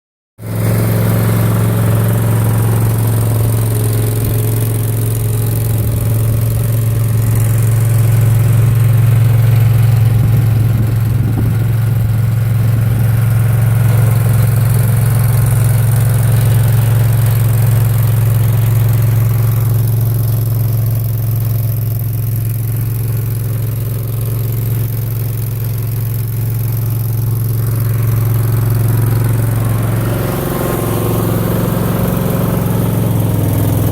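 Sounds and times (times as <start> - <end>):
skid steer engine running: 0.4 - 33.9.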